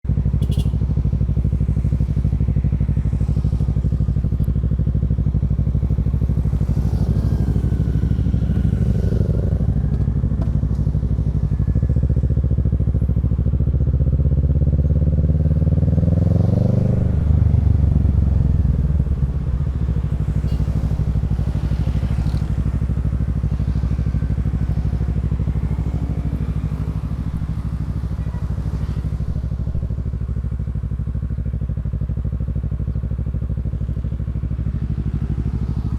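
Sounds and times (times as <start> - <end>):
motorcycle engine revving: 0.2 - 35.9.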